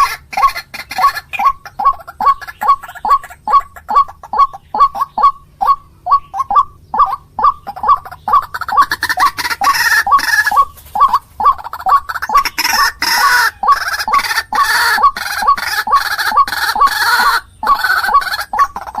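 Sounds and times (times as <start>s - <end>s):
harsh raspy chorus: 0.0s - 19.0s
waterhen hooked call notes: 0.0s - 19.0s.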